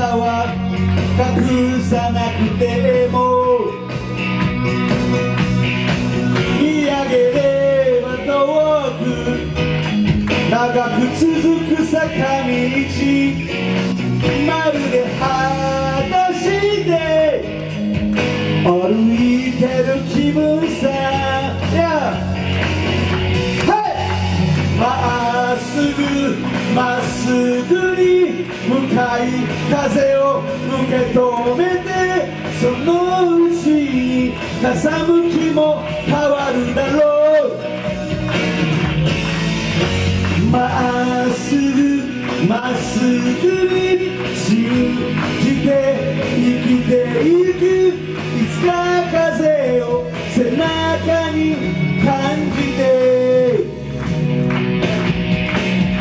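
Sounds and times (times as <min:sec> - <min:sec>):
man singing rock song: 0:00.0 - 0:54.5
amplified instrumental backing: 0:00.0 - 0:56.0.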